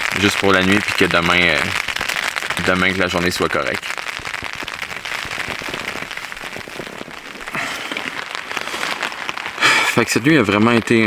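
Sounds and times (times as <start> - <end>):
rain pattering on a tent: 0.0 - 11.0.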